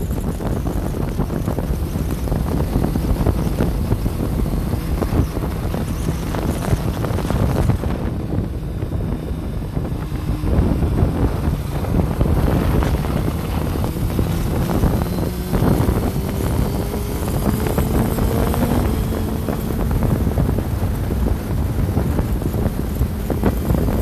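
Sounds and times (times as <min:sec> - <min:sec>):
heavy wind buffeting microphone: 0:00.0 - 0:24.0
motorcycle engine: 0:00.0 - 0:24.0.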